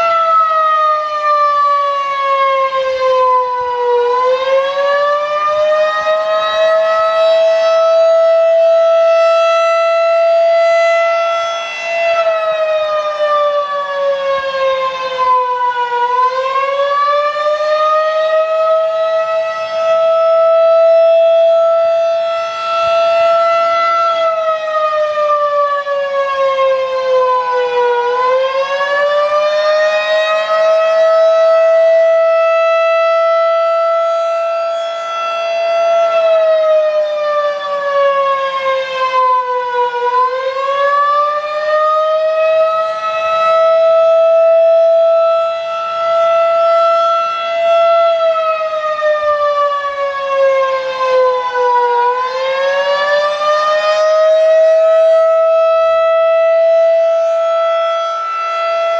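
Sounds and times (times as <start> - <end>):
warning siren single tone: 0.0 - 58.9.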